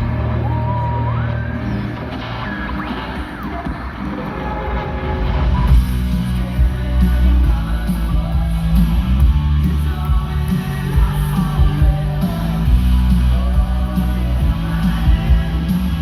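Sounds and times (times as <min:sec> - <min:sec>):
rock music with singing: 0:00.0 - 0:16.0
steady bass line: 0:00.0 - 0:16.0.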